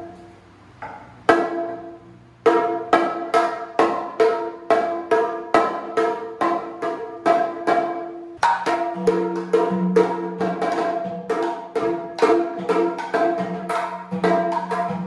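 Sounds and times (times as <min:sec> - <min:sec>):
cylinder drum struck with stick: 0:00.0 - 0:15.0.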